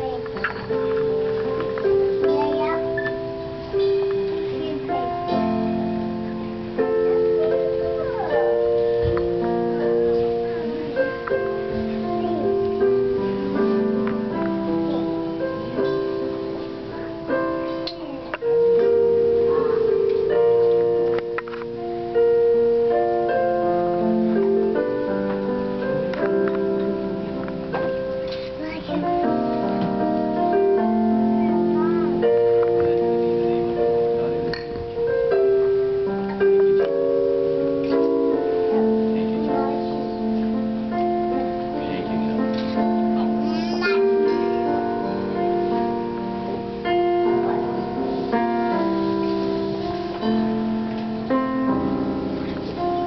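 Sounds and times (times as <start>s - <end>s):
keyboard playing sustained chords: 0.0s - 53.0s.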